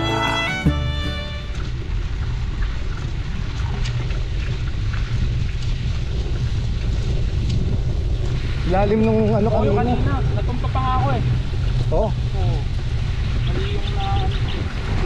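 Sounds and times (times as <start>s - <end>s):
tyres rolling on dirt road: 0.0s - 14.0s
wind buffeting microphone: 1.3s - 15.0s.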